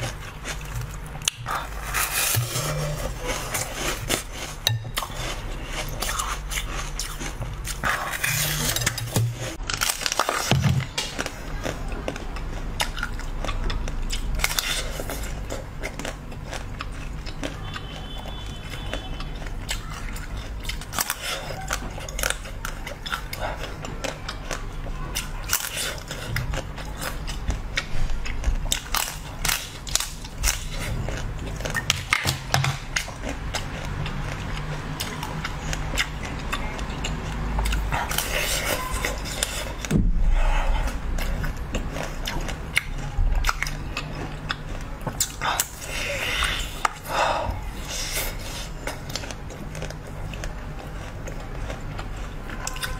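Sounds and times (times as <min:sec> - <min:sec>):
crunchy biting and chewing: 0:00.0 - 0:52.9.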